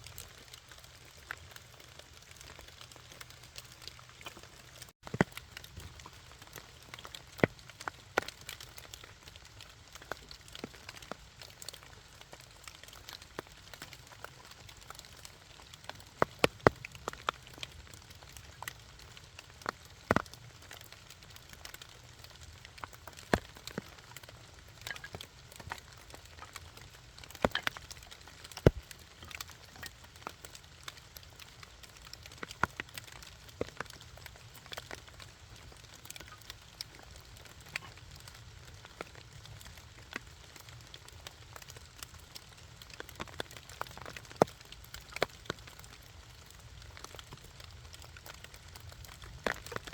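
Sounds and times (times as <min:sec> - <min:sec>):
campfire crackling and popping: 0:00.0 - 0:49.9
rain falling on leaves: 0:00.0 - 0:49.9.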